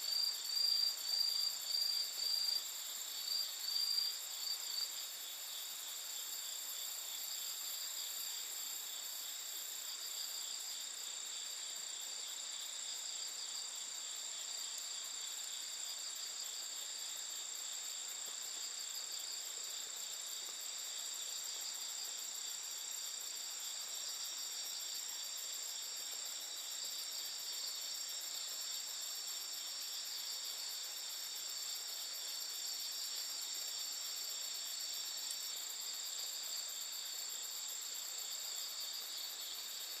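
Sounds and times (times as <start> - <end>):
crickets and insects chirring: 0.0 - 40.0.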